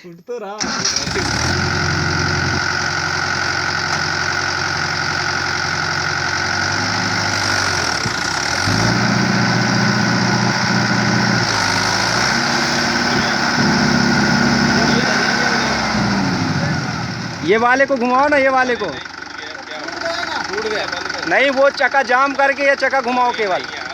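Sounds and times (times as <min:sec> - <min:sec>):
tractor engine revving: 0:00.6 - 0:23.9.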